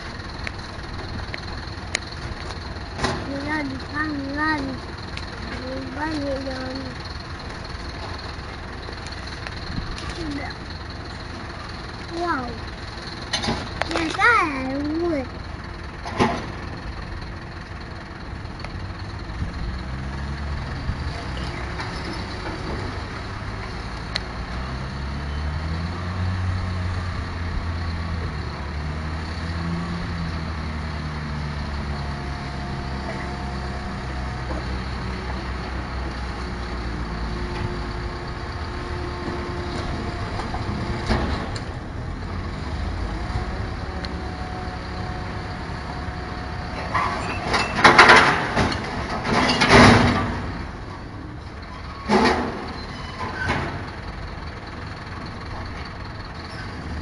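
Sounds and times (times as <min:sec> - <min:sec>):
garbage truck engine revving: 0:00.0 - 0:57.0.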